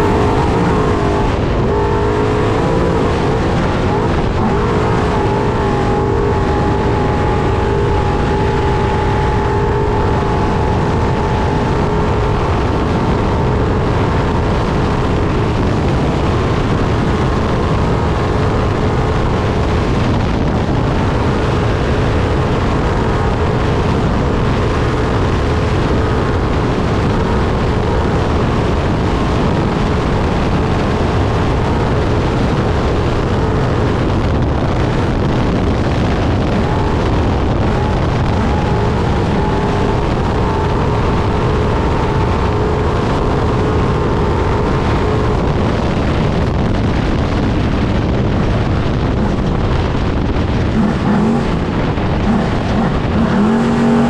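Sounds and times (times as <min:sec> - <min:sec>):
truck engine and driving noise: 0:00.0 - 0:54.0.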